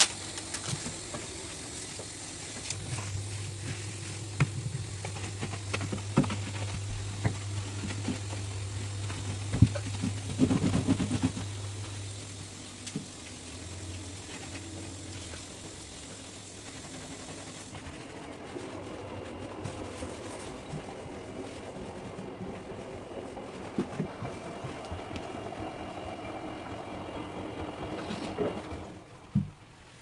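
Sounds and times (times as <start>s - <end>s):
low hum: 0.1s - 29.3s.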